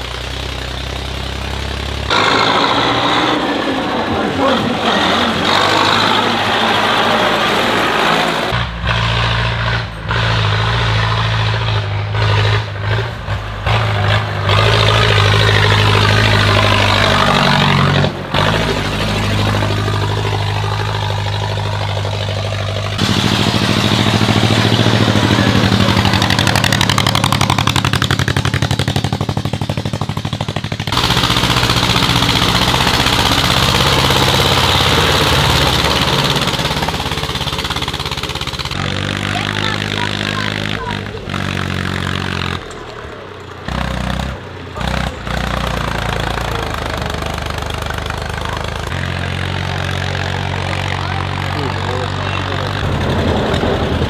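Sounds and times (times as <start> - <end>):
tractor engines running hard: 0.0 - 54.0.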